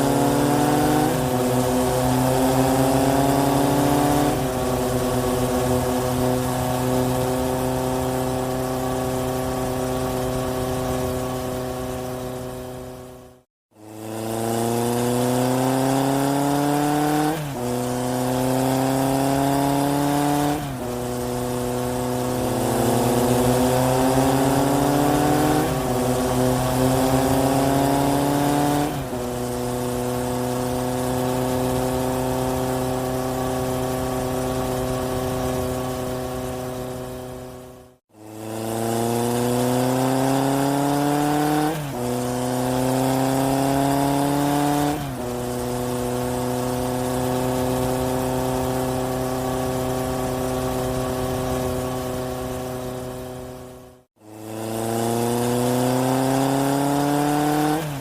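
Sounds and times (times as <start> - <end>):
engine revving through shifts: 0.0 - 58.0.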